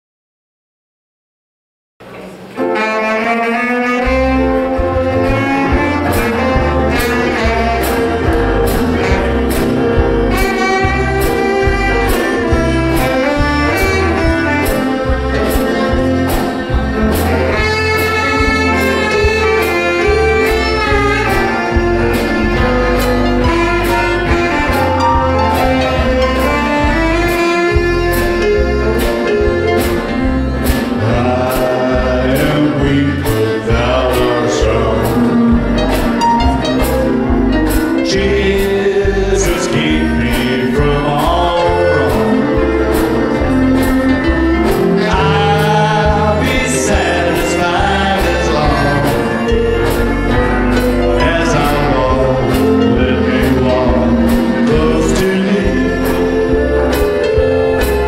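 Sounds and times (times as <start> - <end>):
bass: 2.0 - 58.0
saxophone: 2.2 - 58.0
electric guitars: 3.5 - 58.0
drums keeping a steady beat: 4.1 - 58.0.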